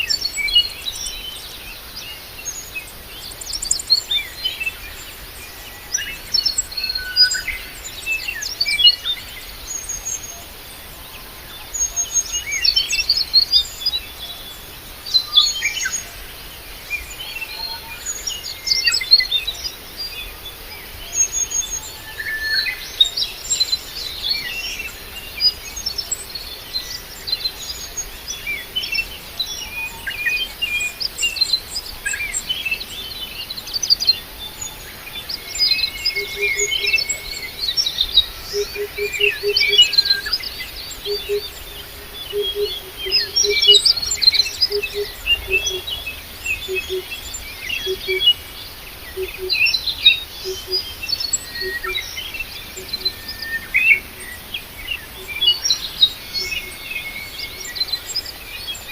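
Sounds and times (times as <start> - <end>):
small birds chirping: 0.0 - 58.9
steady outdoor hiss: 0.0 - 58.9.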